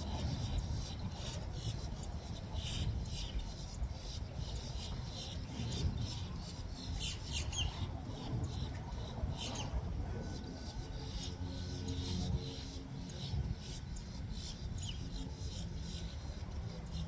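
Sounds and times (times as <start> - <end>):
high-pitched insect chirping: 0.0 - 17.0
wind rumbling on microphone: 0.0 - 17.0.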